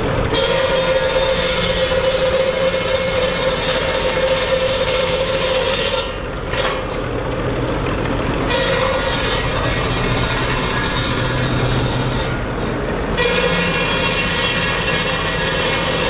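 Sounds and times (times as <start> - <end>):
circular saw cutting a log: 0.0 - 16.0
tractor engine running: 0.0 - 16.0.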